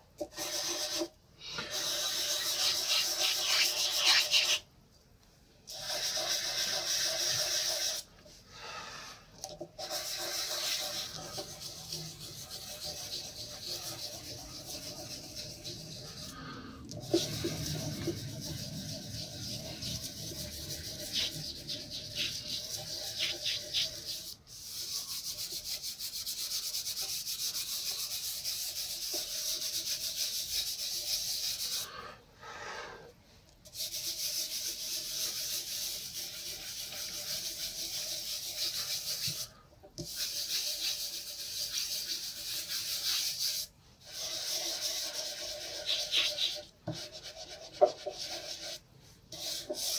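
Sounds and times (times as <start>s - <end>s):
pastel scraping on paper: 1.7s - 4.6s, 9.8s - 16.4s, 17.0s - 31.9s, 33.7s - 49.9s.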